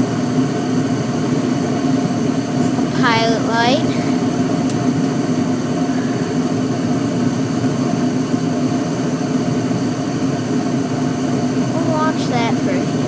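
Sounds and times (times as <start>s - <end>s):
gas furnaces humming: 0.0s - 13.0s.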